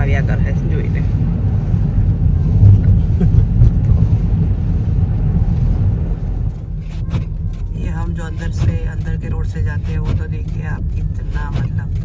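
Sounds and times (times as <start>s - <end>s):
car tyres and engine rumble: 0.0s - 12.0s.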